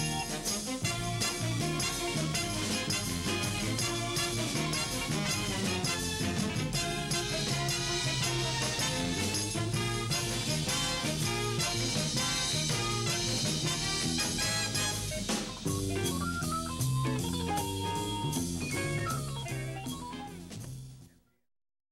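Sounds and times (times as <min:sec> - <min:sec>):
drum kit steady beat: 0:00.0 - 0:21.1
jazzy band music: 0:00.0 - 0:21.1.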